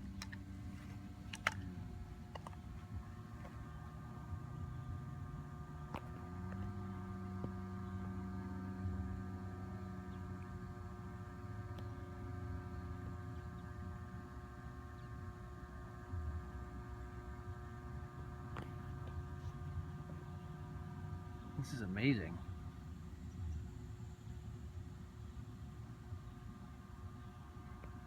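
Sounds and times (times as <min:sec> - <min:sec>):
steady hum over low rumble: 0:00.0 - 0:28.0.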